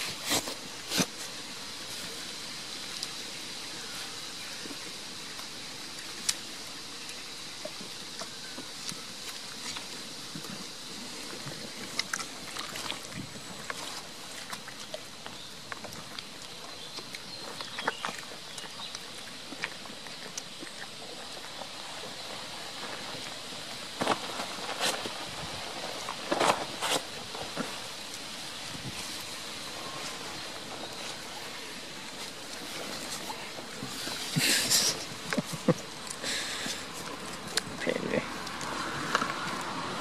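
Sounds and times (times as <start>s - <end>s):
goats chewing: 0.0s - 40.0s
outdoor hiss: 0.0s - 40.0s.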